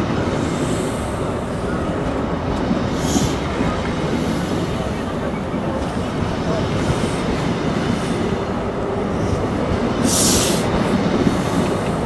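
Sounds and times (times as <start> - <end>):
train wheels rolling on rails: 0.0 - 12.0.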